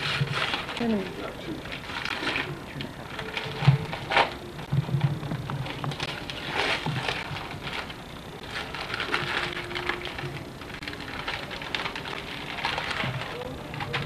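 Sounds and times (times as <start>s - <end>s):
wrapping paper tearing and crumpling: 0.0s - 4.5s, 5.5s - 14.0s.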